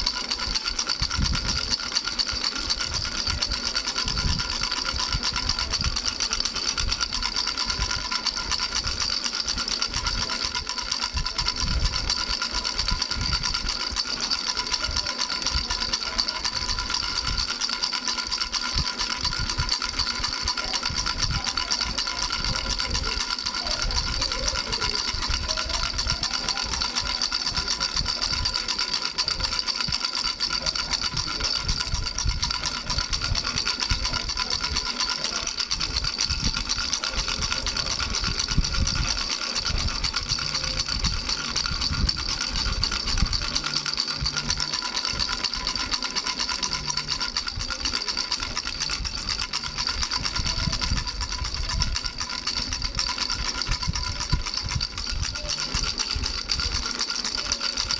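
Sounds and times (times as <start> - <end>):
baby rattle shaking: 0.0 - 57.9.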